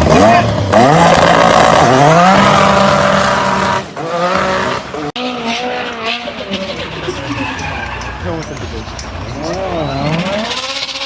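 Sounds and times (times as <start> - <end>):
car engine at high revs: 0.0 - 7.5, 8.8 - 11.0.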